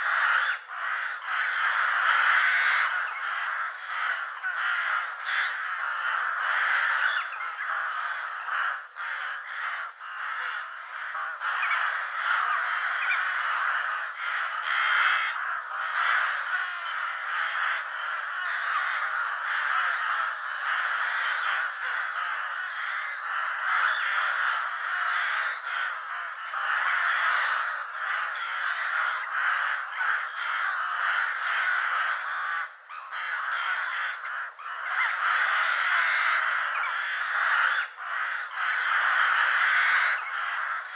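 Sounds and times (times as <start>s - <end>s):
crows cawing: 0.0s - 40.9s.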